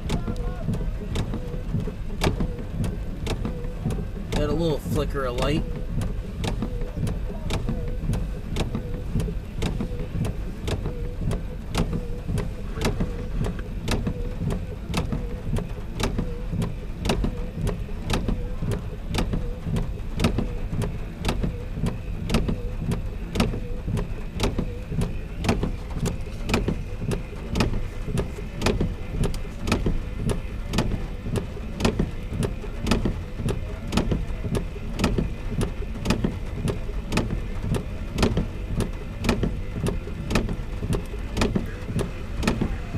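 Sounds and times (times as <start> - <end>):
sharp rhythmic clicks: 0.0 - 42.9
vehicle engine idling: 0.0 - 42.9.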